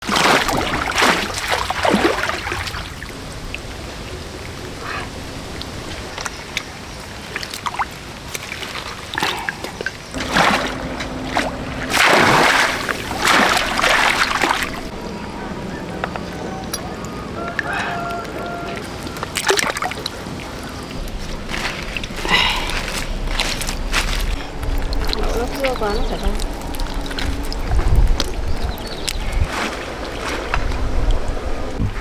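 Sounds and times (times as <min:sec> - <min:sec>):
water splashing: 0:00.0 - 0:32.0
water trickling and sloshing: 0:00.0 - 0:32.0.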